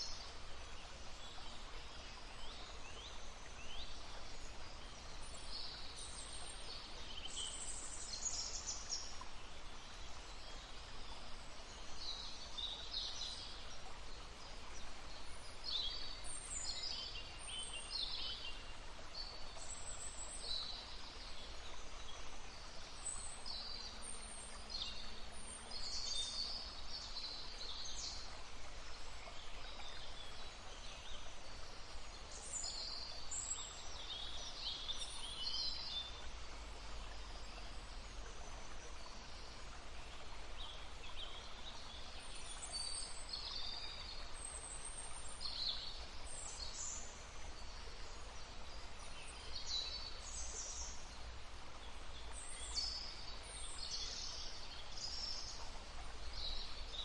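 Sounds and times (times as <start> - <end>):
brook flowing: 0.0 - 57.0.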